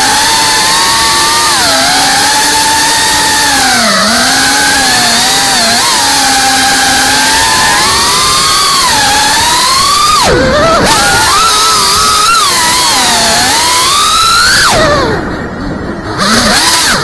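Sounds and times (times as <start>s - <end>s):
racing drone motors whining: 0.0s - 17.0s.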